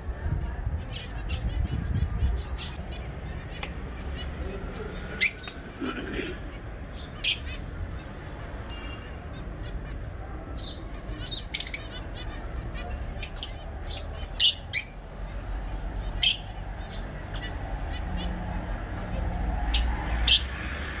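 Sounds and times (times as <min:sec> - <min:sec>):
birds chirping and squawking: 0:00.4 - 0:21.0.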